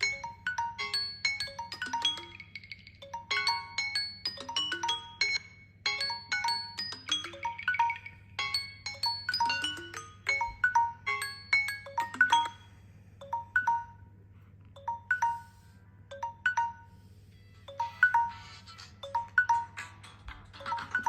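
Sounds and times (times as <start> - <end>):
smartphone ringtone melody: 0.0 - 14.2, 14.8 - 21.0.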